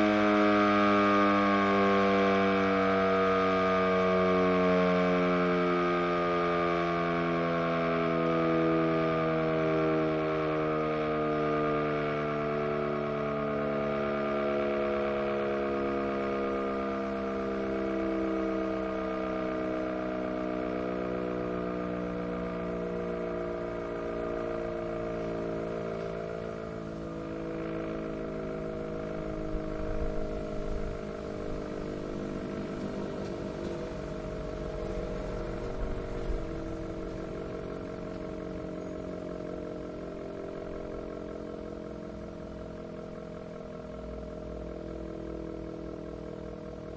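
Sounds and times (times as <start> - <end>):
warning siren winding down: 0.0 - 46.9.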